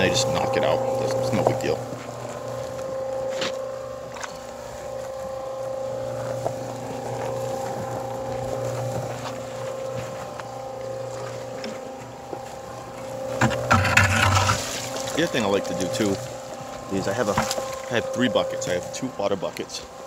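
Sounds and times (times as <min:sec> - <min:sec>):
cement mixer running: 0:00.0 - 0:20.0.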